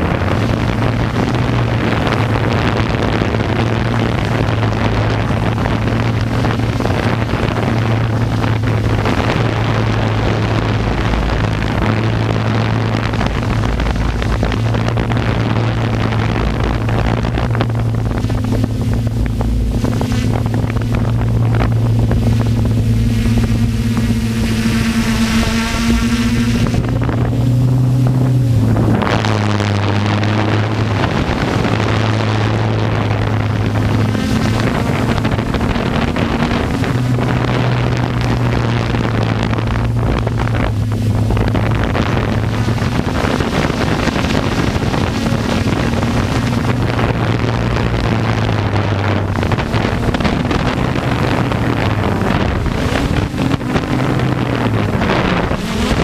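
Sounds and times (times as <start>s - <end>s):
electric motors humming: 0.0s - 56.0s
wind rushing over microphone: 0.0s - 56.0s.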